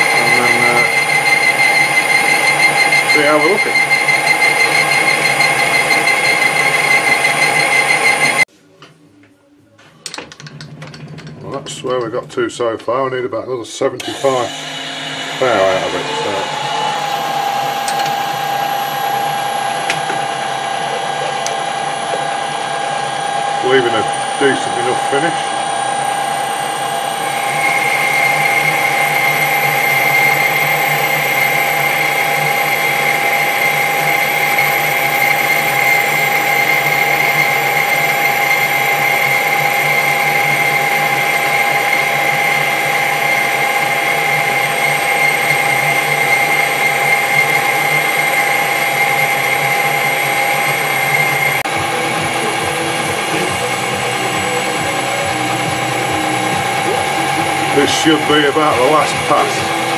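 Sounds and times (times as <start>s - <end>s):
high whine of boring cut: 0.0s - 8.5s, 14.0s - 59.9s
metal lathe running: 0.0s - 8.5s, 14.0s - 59.9s.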